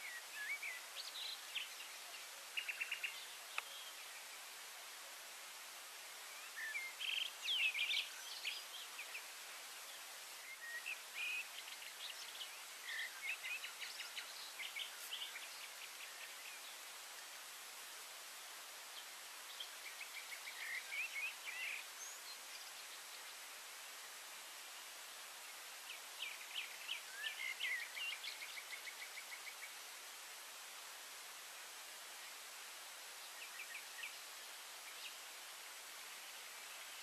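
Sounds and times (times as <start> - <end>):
songbirds chirping and trilling: 0.0 - 37.0
steady hiss: 0.0 - 37.0.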